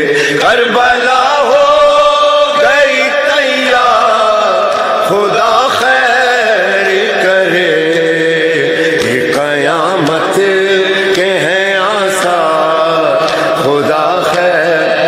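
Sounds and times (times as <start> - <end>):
man singing a lament unaccompanied: 0.0 - 15.0.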